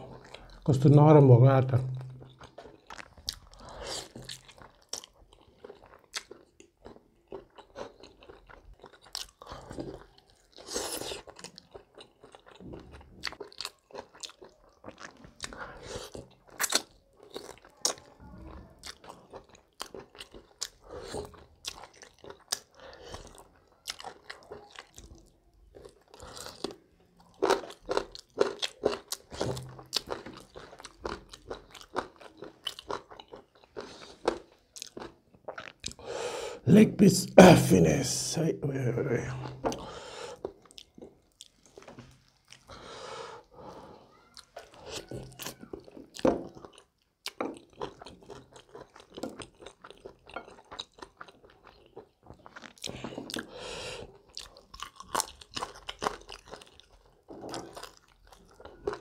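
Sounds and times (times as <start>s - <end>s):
chewing fried chicken: 1.9s - 36.1s, 39.4s - 59.0s.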